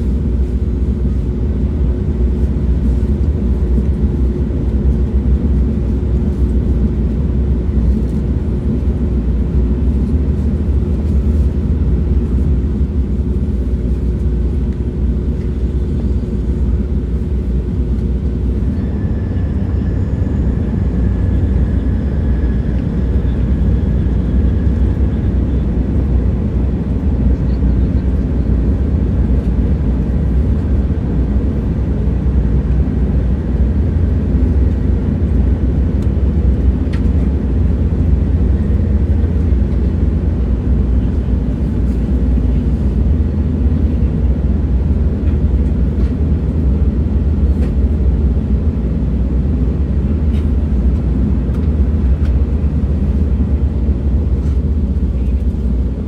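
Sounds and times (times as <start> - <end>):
faint hum and whine: 0.0 - 56.0
train rumbling on rails: 0.0 - 56.0.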